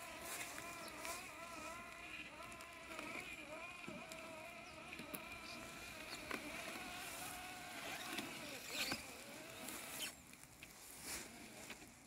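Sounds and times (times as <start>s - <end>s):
robotic mower motors whining: 0.0s - 12.0s.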